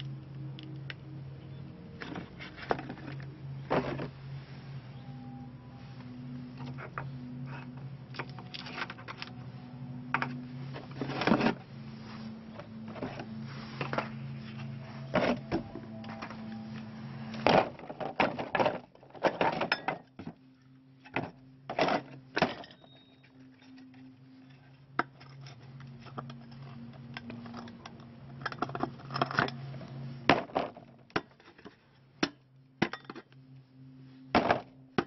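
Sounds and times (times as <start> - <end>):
low hum: 0.0 - 35.0.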